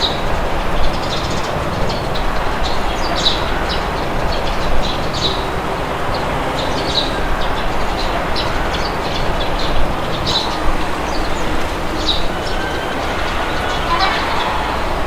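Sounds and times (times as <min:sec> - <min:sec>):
rushing wind: 0:00.0 - 0:15.0
small birds chirping: 0:00.0 - 0:15.0.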